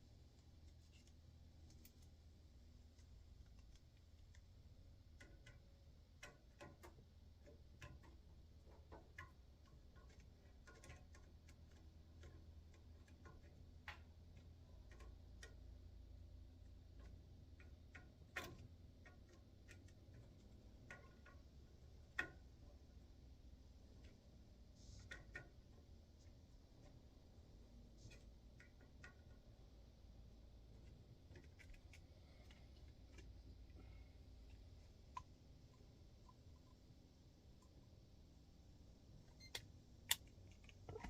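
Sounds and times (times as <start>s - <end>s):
faint low hum: 0.0s - 41.0s
small clicks and taps: 0.3s - 2.2s, 2.8s - 37.8s, 39.4s - 41.0s.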